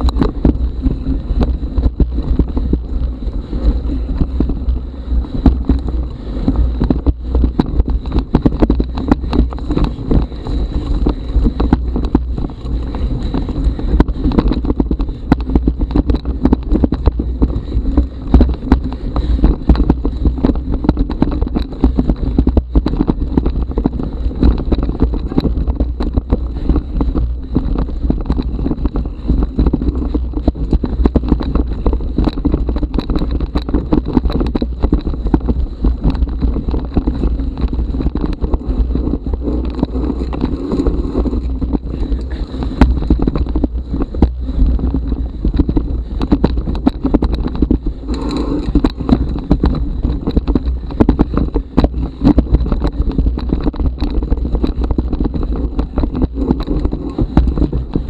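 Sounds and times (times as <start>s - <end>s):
mountain bike rumble and rattle: 0.0s - 58.0s.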